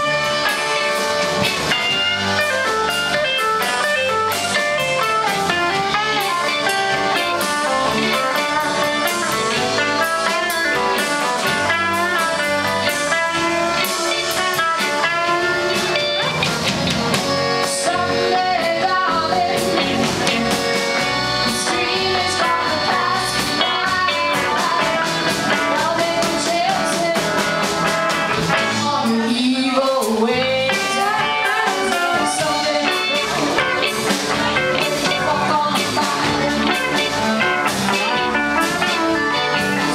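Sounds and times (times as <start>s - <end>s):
bass guitar: 0.0s - 39.9s
drums: 0.0s - 39.9s
electric guitar lead: 0.0s - 39.9s.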